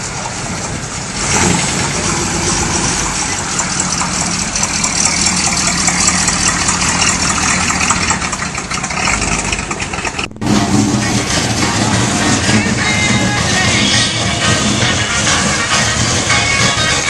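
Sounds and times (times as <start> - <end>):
car engine running at low speed: 0.0 - 17.0.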